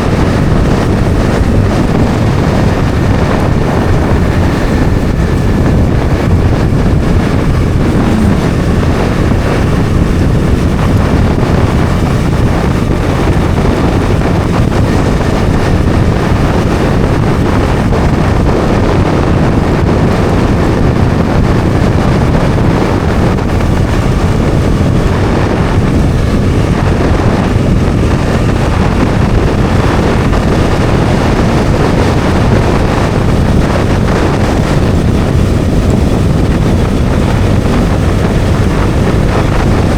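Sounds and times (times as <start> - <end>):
motorcycle engine cruising: 0.0 - 39.9
wind buffeting on microphone: 0.0 - 39.9.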